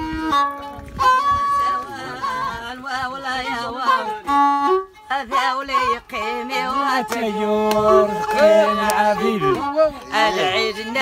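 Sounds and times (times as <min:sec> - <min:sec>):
violin playing wavering melody: 0:00.0 - 0:11.0.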